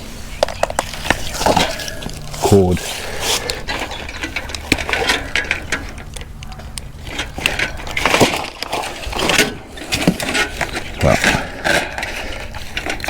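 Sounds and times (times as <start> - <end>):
scrap clattering while rummaged: 0.3 - 13.0.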